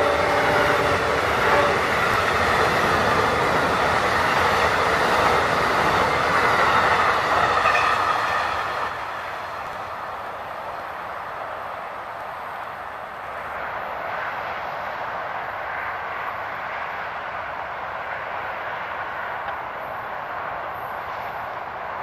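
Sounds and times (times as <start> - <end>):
train cars rolling on rails: 0.0 - 22.0.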